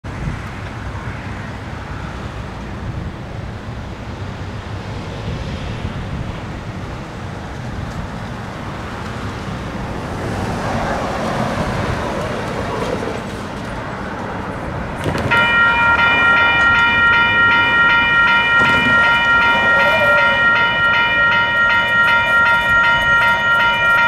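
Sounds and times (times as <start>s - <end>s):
cars and trucks driving past: 0.1s - 24.0s.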